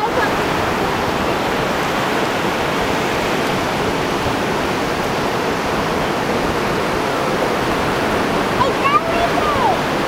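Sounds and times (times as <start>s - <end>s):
waves breaking on sand: 0.0s - 10.0s.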